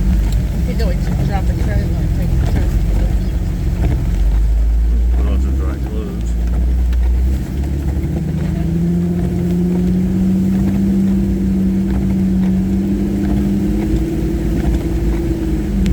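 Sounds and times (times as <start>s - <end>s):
car engine running: 0.0s - 15.9s
low rumble: 0.0s - 15.9s.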